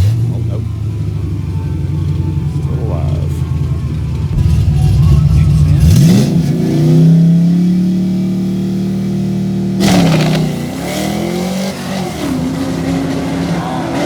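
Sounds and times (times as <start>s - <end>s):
drag car engine at full throttle: 0.0s - 14.0s.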